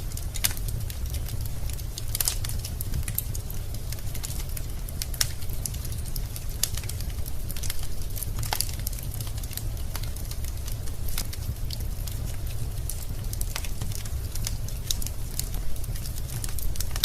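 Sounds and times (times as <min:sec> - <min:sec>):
fire crackling and popping: 0:00.0 - 0:17.0
fire low rumble: 0:00.0 - 0:17.0.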